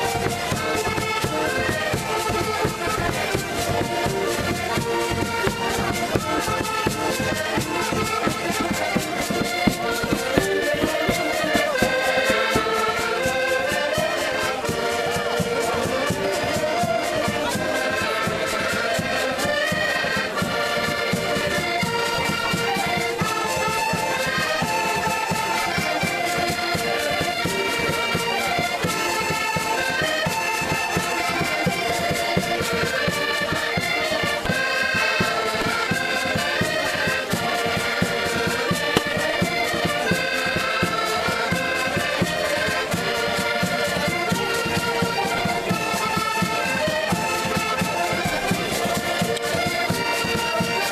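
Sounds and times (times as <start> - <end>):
steady beat: 0.0 - 29.8, 36.8 - 50.9
button accordions playing folk tune: 0.0 - 50.9.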